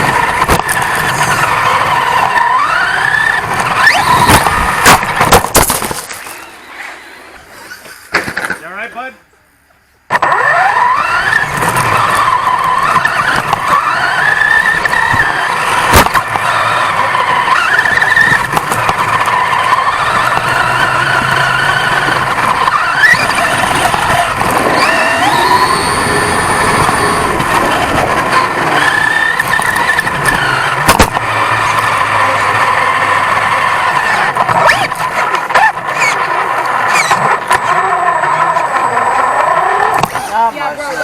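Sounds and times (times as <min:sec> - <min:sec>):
rc truck motor whining: 0:00.0 - 0:07.9, 0:10.1 - 0:41.0.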